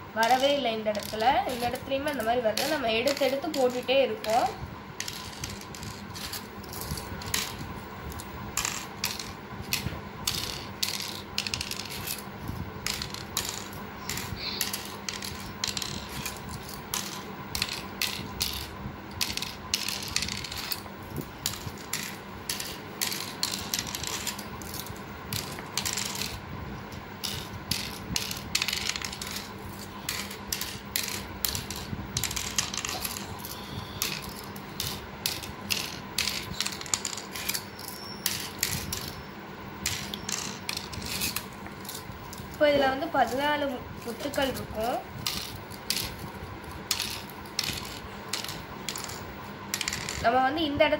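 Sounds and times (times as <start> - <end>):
shells clicking into wooden cups: 0.2 - 26.4, 27.2 - 43.4, 44.0 - 46.3, 46.9 - 50.3.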